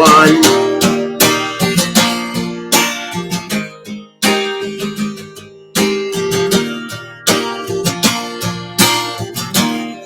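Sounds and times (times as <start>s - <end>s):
acoustic guitar strummed: 0.0s - 10.0s.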